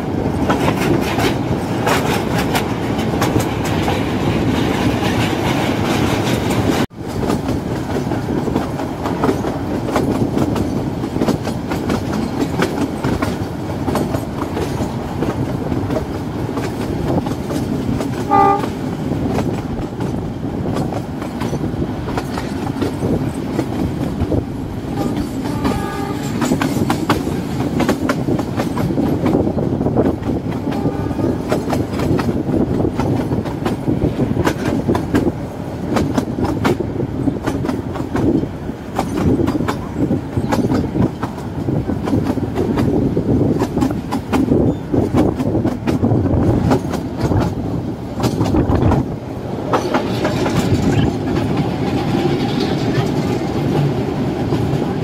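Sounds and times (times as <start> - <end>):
wheels clicking over rail joints: 0.0 - 53.9
train rumble and rattle: 0.0 - 55.0.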